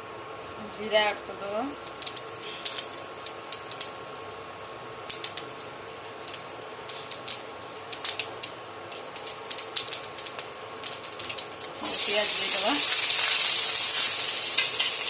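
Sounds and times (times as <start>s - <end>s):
seeds crackling in hot oil: 0.0s - 15.0s.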